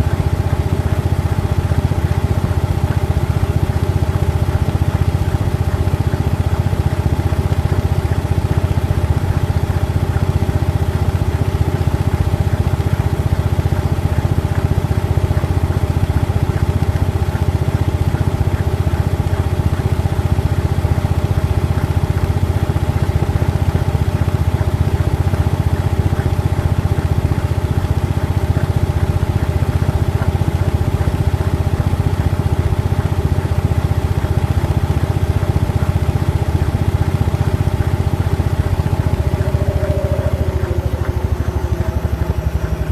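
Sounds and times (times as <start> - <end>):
washing machine drum spinning: 0.0 - 42.9.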